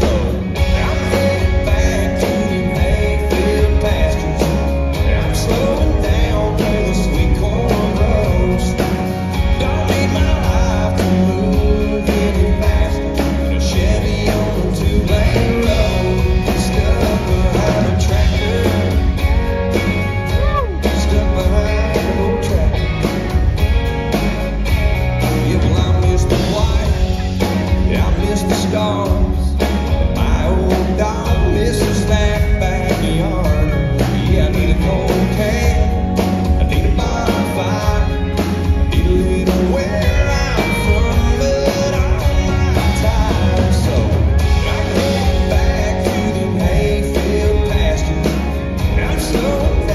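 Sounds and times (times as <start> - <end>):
acoustic guitar: 0.0 - 49.9
band with bass and drums: 0.0 - 49.9
man singing: 0.0 - 49.9.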